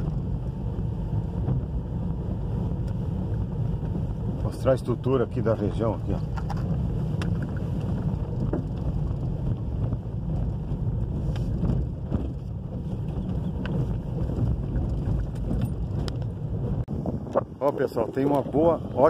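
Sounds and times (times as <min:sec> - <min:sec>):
vehicle rolling on gravel: 0:00.0 - 0:16.8
wind buffeting microphone: 0:00.0 - 0:19.0.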